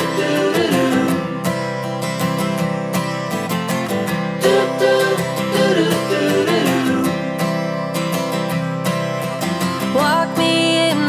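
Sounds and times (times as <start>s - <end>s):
country-pop song: 0.0s - 11.0s.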